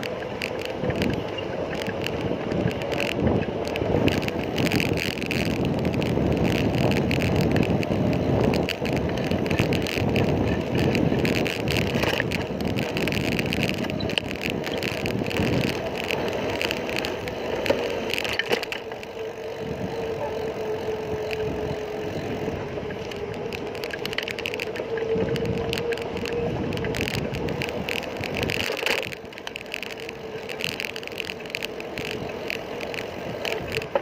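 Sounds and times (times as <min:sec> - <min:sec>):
bicycle rattling and clicking: 0:00.0 - 0:34.0
wind on microphone: 0:00.0 - 0:34.0.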